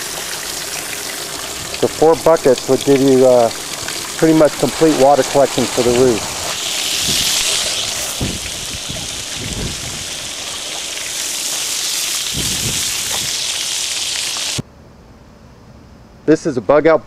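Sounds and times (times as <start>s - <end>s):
hose water spraying on roof: 0.0s - 14.6s.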